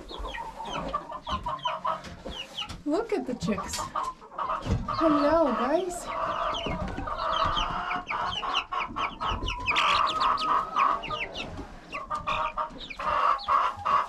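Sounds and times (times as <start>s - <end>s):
young chickens cheeping: 0.0s - 14.0s.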